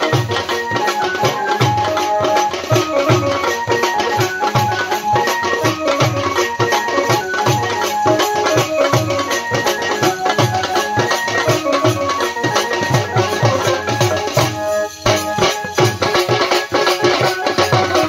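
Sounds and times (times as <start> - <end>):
hand-beaten drums: 0.0 - 18.0.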